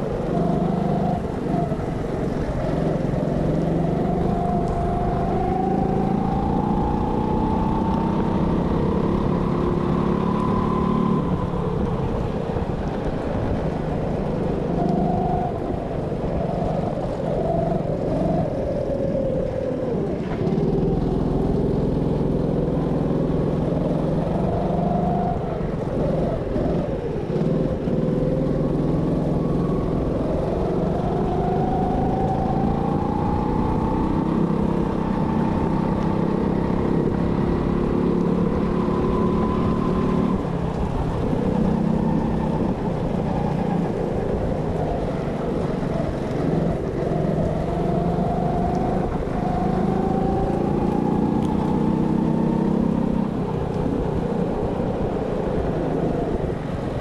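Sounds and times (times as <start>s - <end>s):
go-kart engine accelerating: 0.0s - 57.0s.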